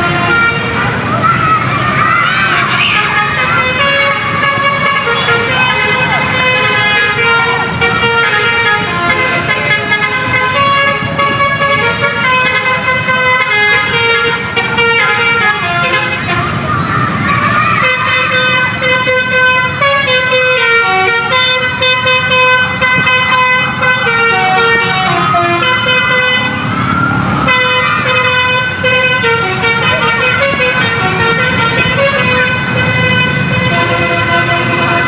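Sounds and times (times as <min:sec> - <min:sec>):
multi-tone bus horn playing a tune: 0:00.0 - 0:01.5, 0:02.1 - 0:35.0
low rumble of bus: 0:00.0 - 0:35.0.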